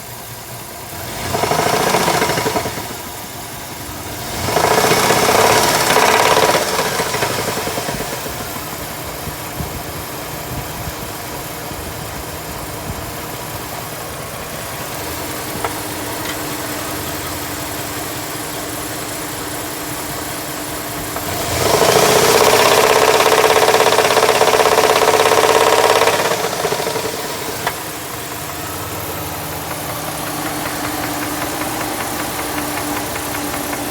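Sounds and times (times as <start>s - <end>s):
car engine idling and revving: 0.0s - 33.9s
engine knocking: 0.0s - 33.9s.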